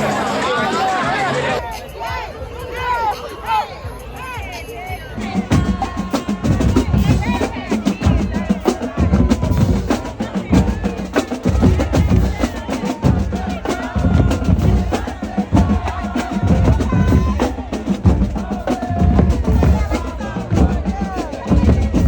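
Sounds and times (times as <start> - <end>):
music with heavy drums: 4.0 - 22.0.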